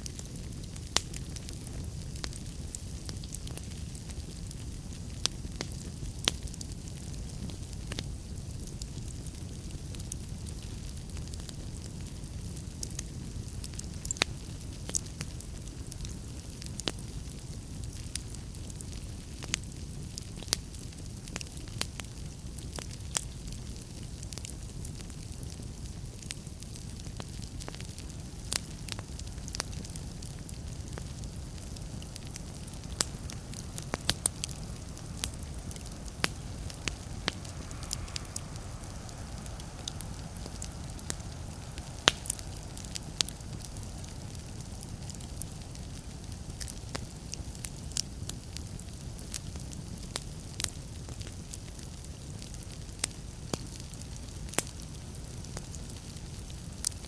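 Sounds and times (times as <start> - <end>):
fire flames rumbling: 0.0 - 57.0
wood crackling and popping: 0.0 - 57.0.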